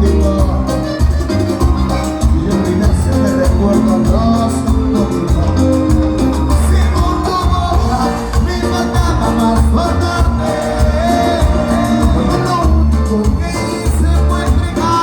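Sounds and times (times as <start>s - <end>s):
heavy bass beat: 0.0s - 15.0s
latin dance band playing: 0.0s - 15.0s.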